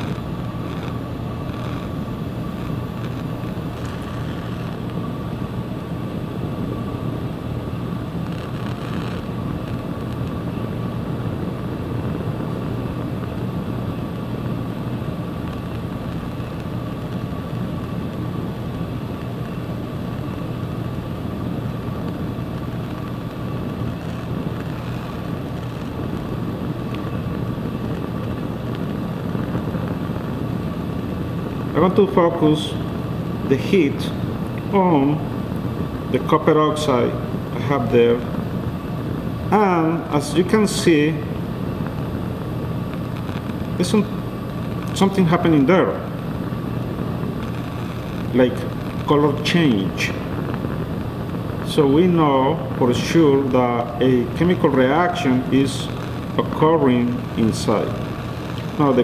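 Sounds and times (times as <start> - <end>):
bunsen burner rumbling: 0.0 - 59.0.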